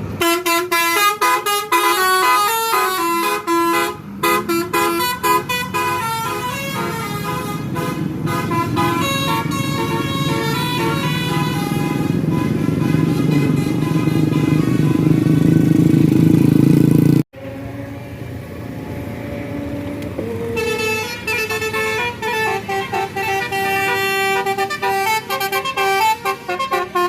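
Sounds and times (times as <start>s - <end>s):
bus engine rumble: 0.0s - 27.0s
musical bus horn melody: 0.1s - 15.7s, 19.4s - 27.0s.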